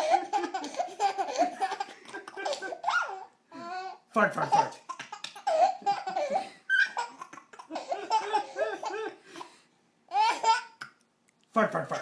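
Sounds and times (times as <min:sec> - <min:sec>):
baby laughing: 0:00.0 - 0:09.5, 0:10.1 - 0:11.0.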